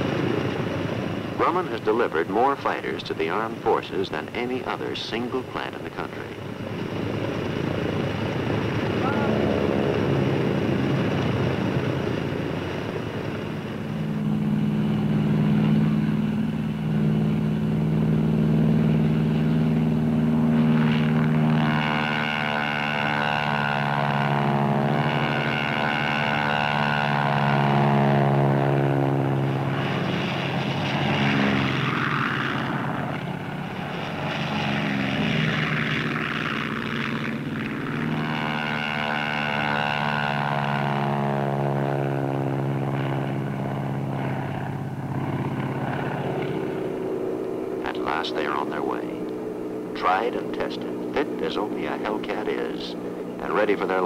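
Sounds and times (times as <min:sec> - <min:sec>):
propeller plane engine droning: 0:00.0 - 0:54.0.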